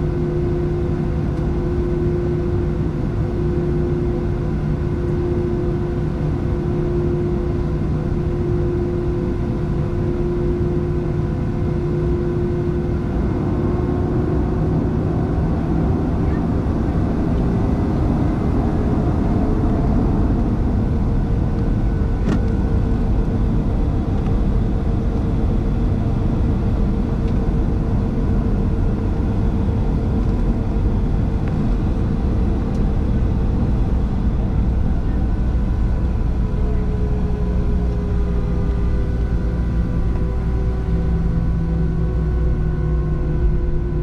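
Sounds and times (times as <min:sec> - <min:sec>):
airplane cabin engine rumble: 0:00.0 - 0:44.0.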